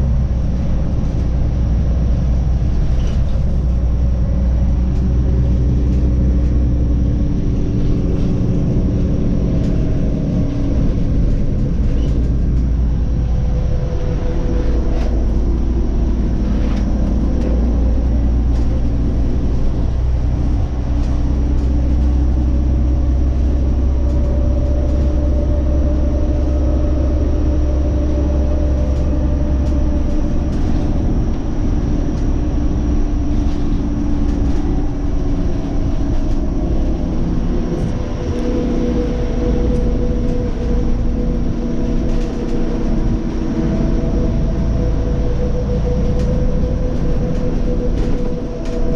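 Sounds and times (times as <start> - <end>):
bus engine drone: 0.0 - 48.9.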